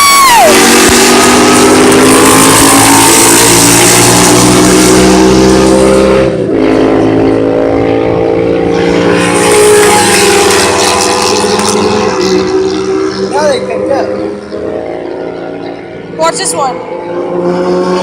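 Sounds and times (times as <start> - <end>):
racing motorcycle engines passing: 0.0 - 18.0.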